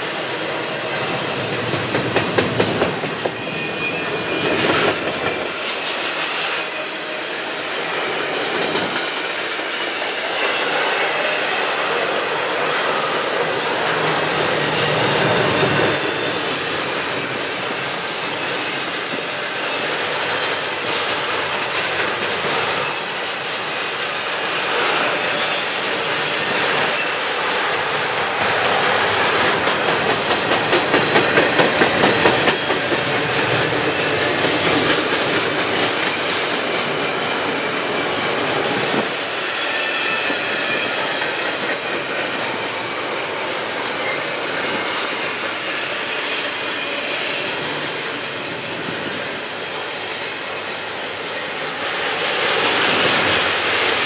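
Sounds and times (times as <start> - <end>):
freight train wheels rumbling: 0.0 - 54.0
rhythmic clicks over rail: 0.0 - 54.0.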